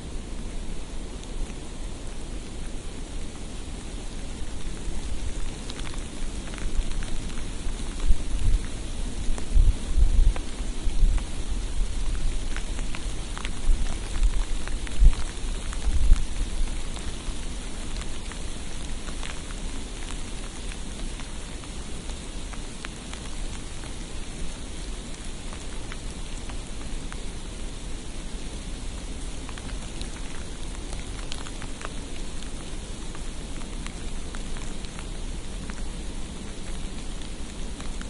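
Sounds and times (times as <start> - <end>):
hiss of falling snow: 0.0 - 38.0
light ticks on surfaces: 1.1 - 38.0.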